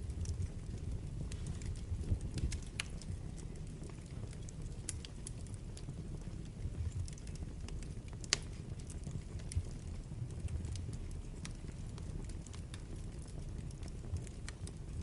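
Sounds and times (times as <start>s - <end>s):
burning logs crackling and popping: 0.0s - 15.0s
fire flames rumbling: 0.0s - 15.0s.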